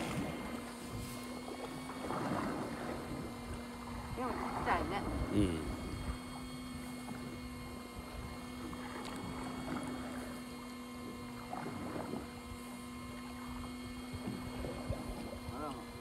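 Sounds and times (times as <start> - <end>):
boat motor hum: 0.0 - 16.0
waves lapping against hull: 0.0 - 16.0.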